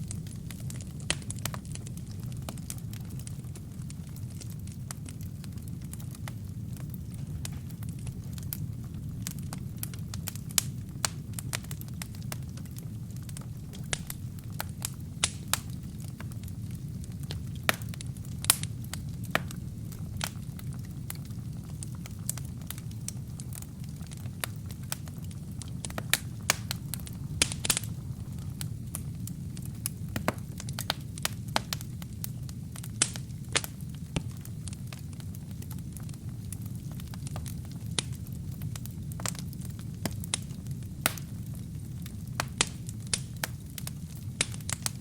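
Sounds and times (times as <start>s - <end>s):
logs crackling and popping: 0.0s - 45.0s
low rumble of flames: 0.0s - 45.0s.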